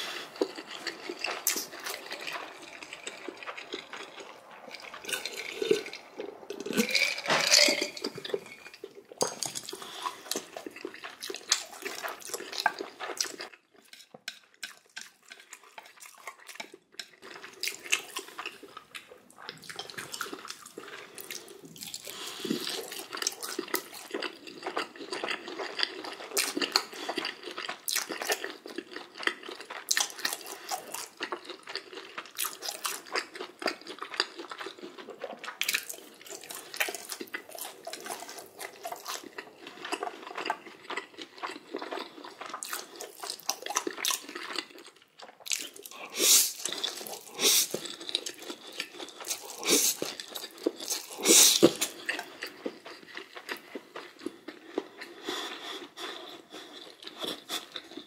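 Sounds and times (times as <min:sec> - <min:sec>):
noodles slurped and chewed: 0:00.0 - 0:58.0.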